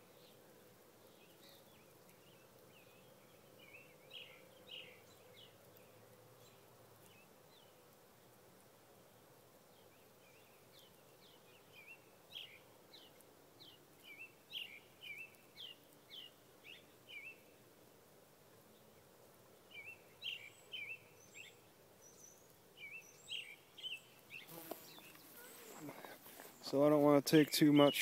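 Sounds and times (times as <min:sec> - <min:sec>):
faint steady hiss: 0:00.0 - 0:28.0
bird chirping: 0:01.0 - 0:07.8, 0:09.8 - 0:17.6, 0:19.7 - 0:28.0.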